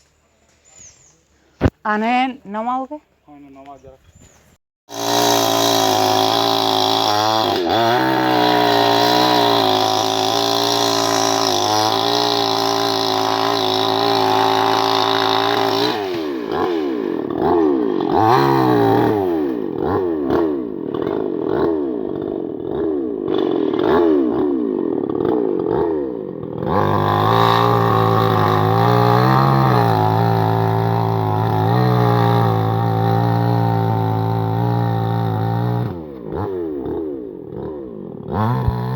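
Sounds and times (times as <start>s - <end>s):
chainsaw engine revving: 4.9s - 38.9s.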